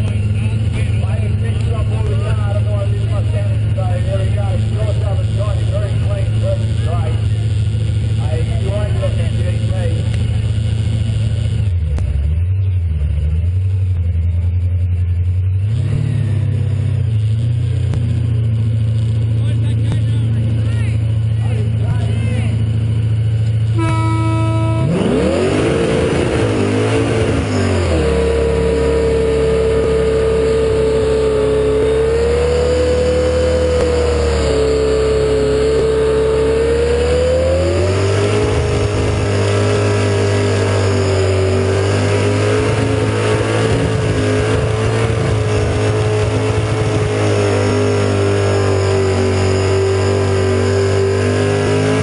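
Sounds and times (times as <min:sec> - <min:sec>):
car engine revving hard: 0:00.0 - 0:12.0, 0:15.3 - 0:52.0.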